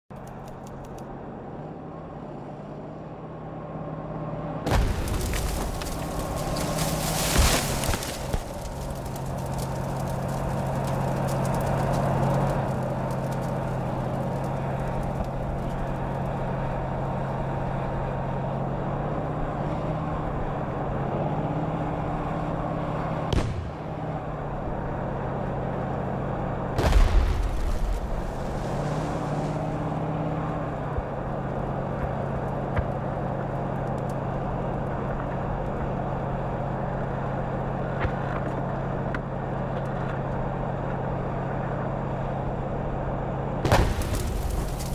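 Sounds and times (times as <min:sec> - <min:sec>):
tank engine humming: 0:00.1 - 0:44.9.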